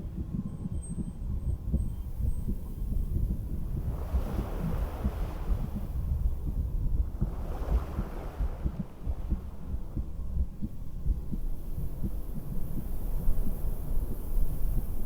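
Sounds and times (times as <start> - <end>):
heartbeat through stethoscope: 0.0 - 15.0.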